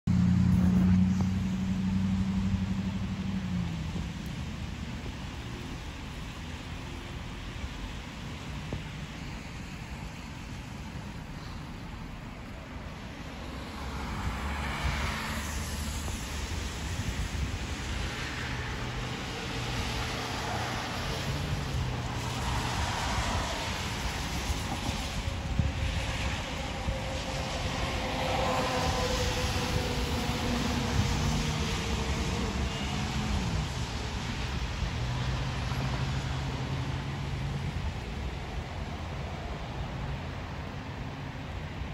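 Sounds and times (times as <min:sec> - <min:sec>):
low traffic rumble: 0:00.0 - 0:41.9
car engine hum: 0:00.1 - 0:37.8
tyres hissing on wet road: 0:00.2 - 0:41.9.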